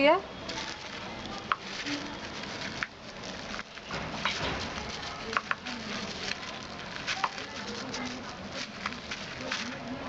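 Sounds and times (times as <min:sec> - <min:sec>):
plastic bag crinkling: 0:00.3 - 0:10.0.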